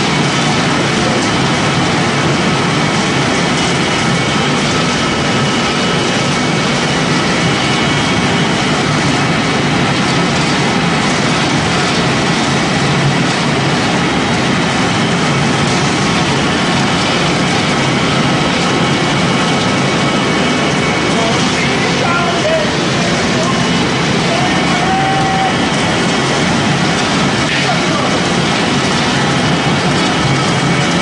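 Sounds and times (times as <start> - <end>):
pellet mill running: 0.0 - 31.0.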